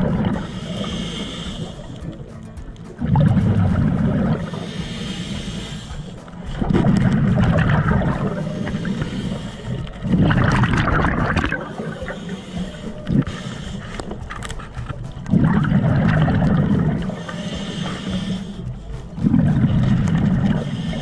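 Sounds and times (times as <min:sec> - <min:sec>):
regulator exhaust bubbles gurgling: 0:00.0 - 0:02.2, 0:02.9 - 0:21.0
breathing in through regulator: 0:00.0 - 0:15.2, 0:15.9 - 0:21.0.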